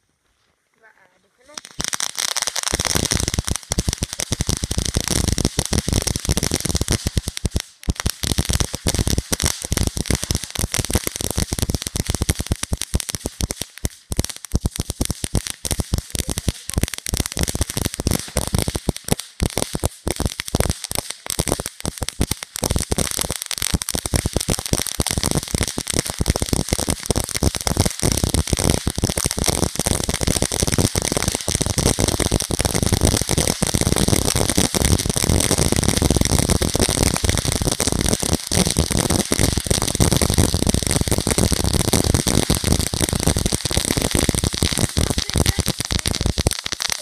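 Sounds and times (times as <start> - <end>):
firework crackling: 1.3 - 47.0.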